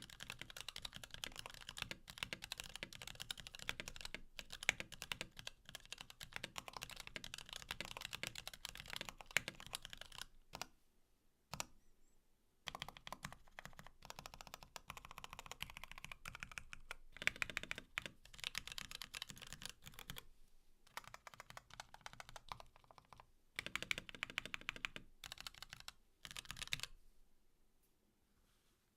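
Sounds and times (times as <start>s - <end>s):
fast typing on mechanical keyboard: 0.0s - 10.7s, 12.7s - 20.2s, 20.9s - 26.9s.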